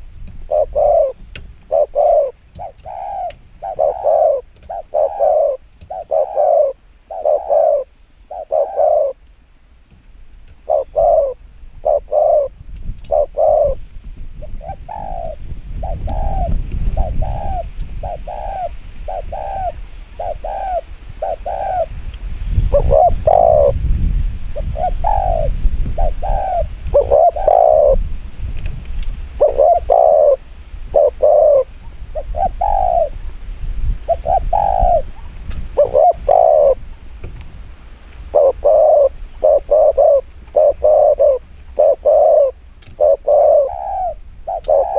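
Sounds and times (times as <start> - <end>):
dove cooing: 0.0 - 9.2, 10.5 - 13.8, 14.4 - 22.0, 22.6 - 23.8, 24.6 - 28.1, 29.4 - 33.3, 34.0 - 36.9, 38.3 - 44.9.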